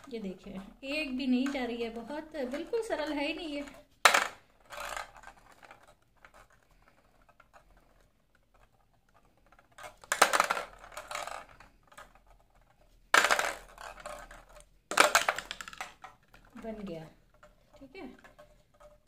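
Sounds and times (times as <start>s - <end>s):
plastic balls rattling on steel tray: 0.0s - 19.0s.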